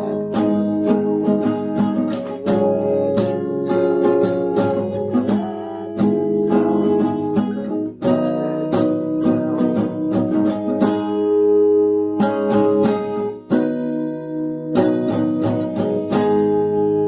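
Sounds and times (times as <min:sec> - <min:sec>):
acoustic guitar strumming chords: 0:00.0 - 0:17.0
gliding guitar notes: 0:00.0 - 0:17.0.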